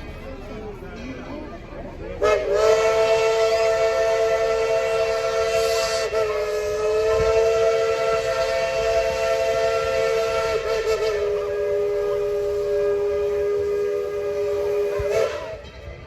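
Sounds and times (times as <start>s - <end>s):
steam hissing: 2.2s - 15.9s
steam locomotive whistle: 2.2s - 15.9s.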